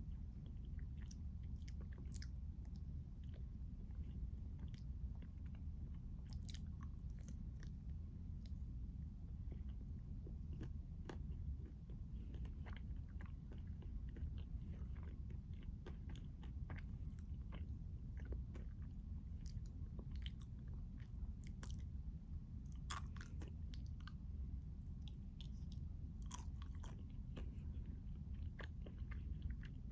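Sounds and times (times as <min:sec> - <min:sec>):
chewing crunchy ice cream bar: 0:00.0 - 0:29.9.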